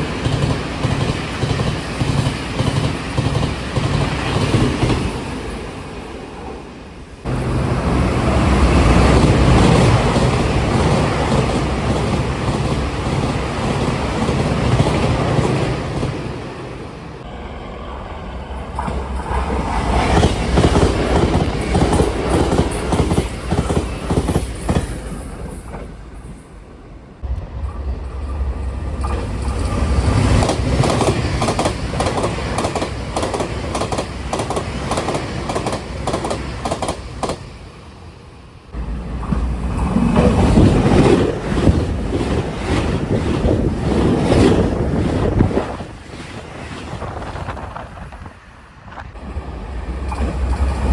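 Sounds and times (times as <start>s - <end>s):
electric train rushing past: 0.0s - 50.9s.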